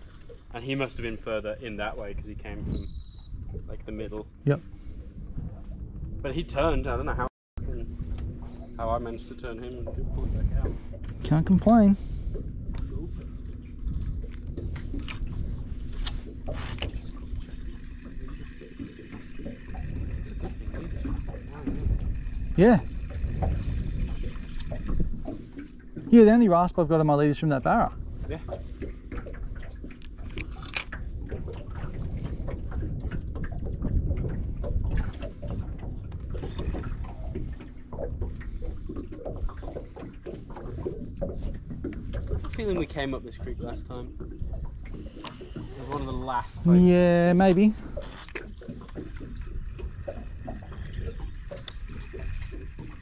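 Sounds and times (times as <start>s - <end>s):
uneven low rumble: 0.0s - 53.0s
water slapping around boat: 0.0s - 53.0s.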